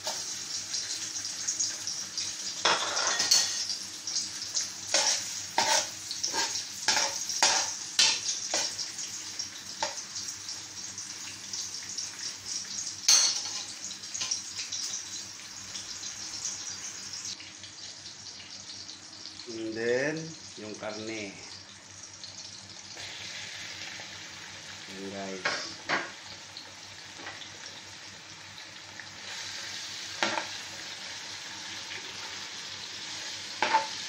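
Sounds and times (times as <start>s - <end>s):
onion sizzling in hot oil: 0.0s - 34.0s.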